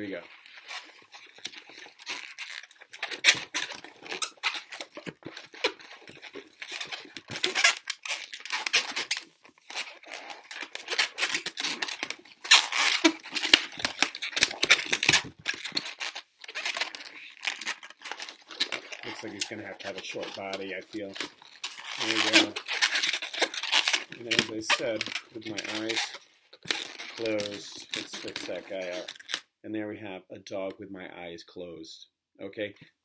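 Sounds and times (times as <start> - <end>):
rubber balloon being twisted: 0.0 - 29.4.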